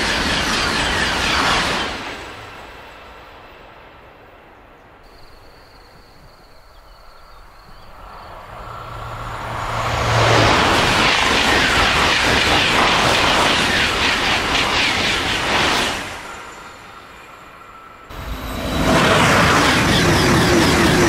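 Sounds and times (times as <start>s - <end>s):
high-speed train passing: 0.0s - 21.0s.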